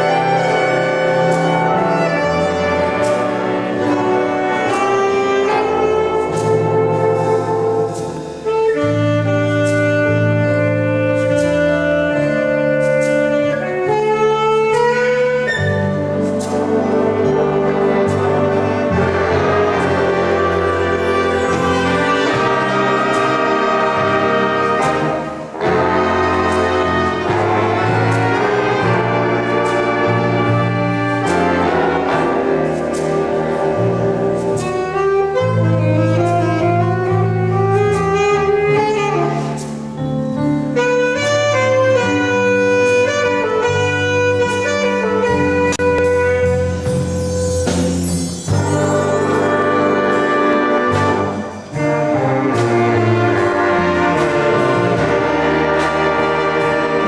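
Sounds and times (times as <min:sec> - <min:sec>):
big band jazz: 0:00.0 - 0:57.0.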